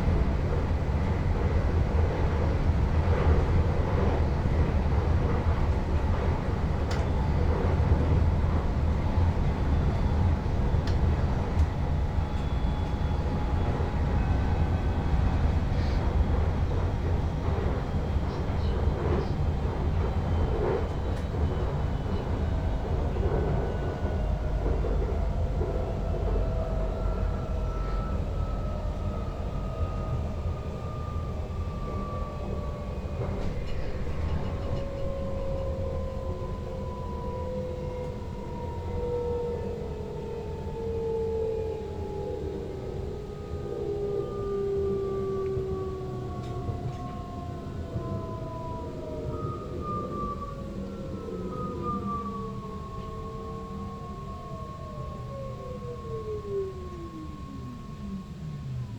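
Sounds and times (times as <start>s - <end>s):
train running: 0.0s - 58.9s.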